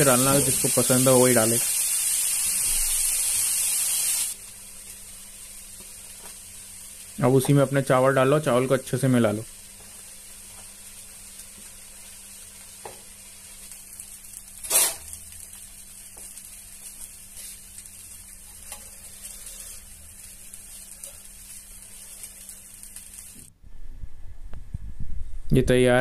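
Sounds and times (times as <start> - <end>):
rice sizzling in a pan: 0.0 - 23.5.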